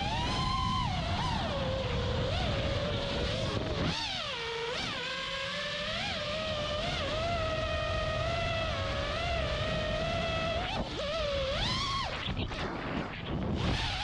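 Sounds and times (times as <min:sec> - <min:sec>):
drone motors whining: 0:00.0 - 0:14.0
wind on microphone: 0:00.0 - 0:14.0.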